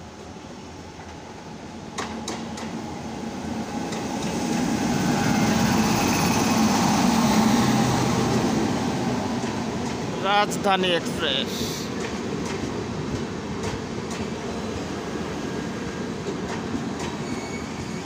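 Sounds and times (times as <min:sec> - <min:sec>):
passing train rumble and wheels: 0:00.0 - 0:18.0.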